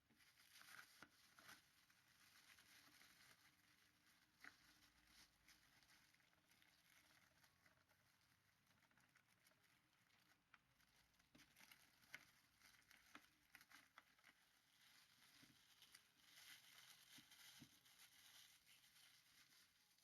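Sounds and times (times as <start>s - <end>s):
faint clicks and rustles: 0.0s - 20.0s.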